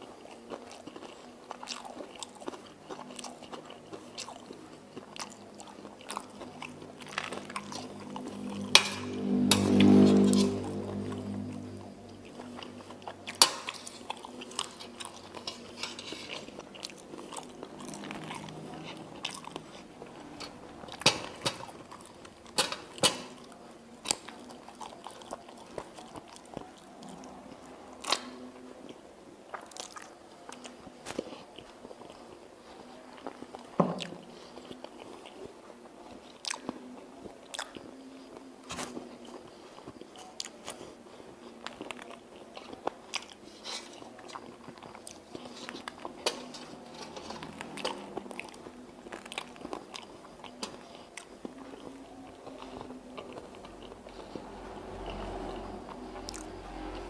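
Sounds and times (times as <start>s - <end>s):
chewing and biting food: 0.0s - 57.0s.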